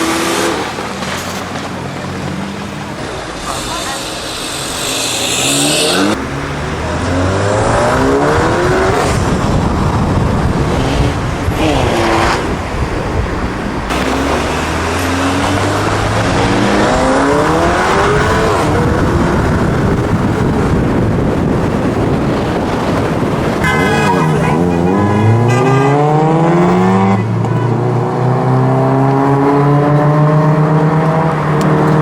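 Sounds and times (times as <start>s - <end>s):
car engine revving hard: 0.0s - 1.0s, 2.6s - 32.0s.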